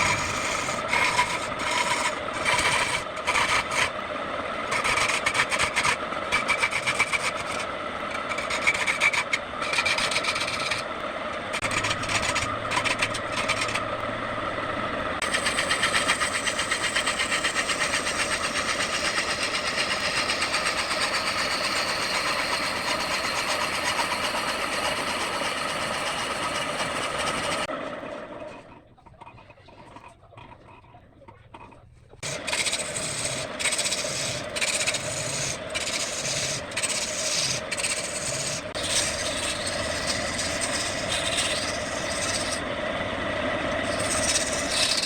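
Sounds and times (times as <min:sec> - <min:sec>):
turning tool cutting wood: 0:00.0 - 0:27.7, 0:31.6 - 0:45.0
wood lathe motor hum: 0:00.0 - 0:28.8, 0:32.2 - 0:45.0.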